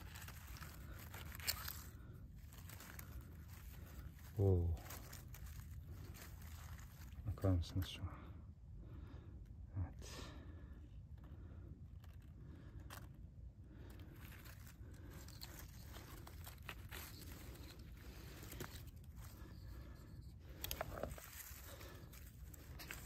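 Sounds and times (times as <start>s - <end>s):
rustling of dry pine needles: 0.0s - 8.3s, 11.0s - 23.0s.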